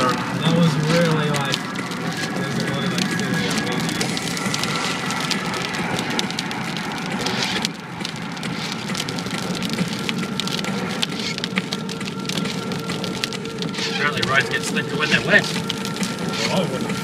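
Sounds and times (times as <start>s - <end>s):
rain on car windscreen: 0.0s - 17.0s
road and engine hum: 0.0s - 17.0s.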